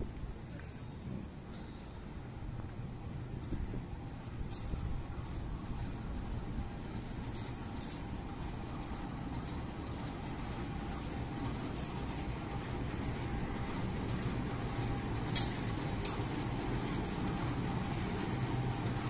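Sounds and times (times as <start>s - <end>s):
locomotive engine rumbling: 0.0s - 19.0s.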